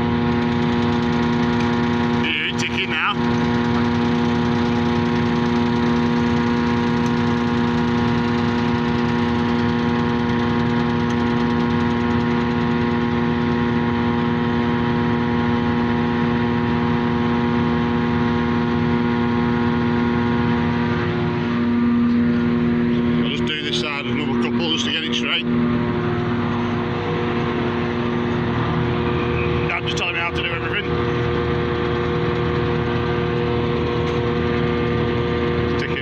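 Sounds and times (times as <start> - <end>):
forage harvester whine: 0.0 - 36.0.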